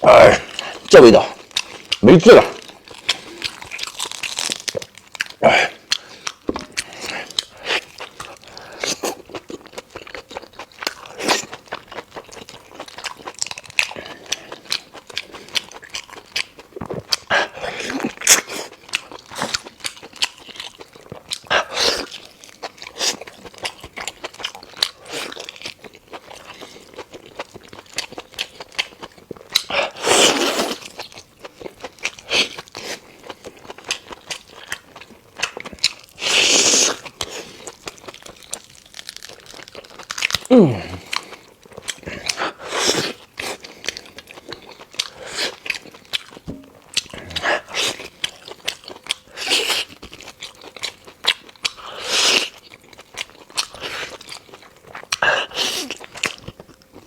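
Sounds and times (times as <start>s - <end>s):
chewing and biting meat: 0.0s - 57.0s.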